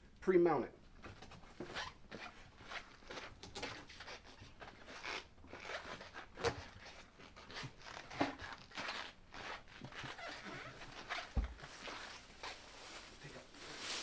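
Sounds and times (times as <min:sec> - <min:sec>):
rubber tire scuffing and scraping: 0:01.5 - 0:14.0.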